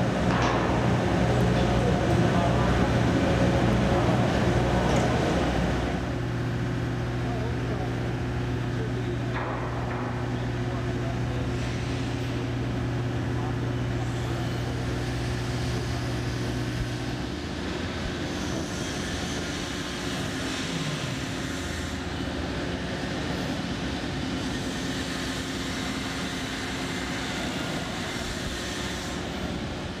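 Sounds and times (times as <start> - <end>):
construction machinery noise: 0.0 - 30.0.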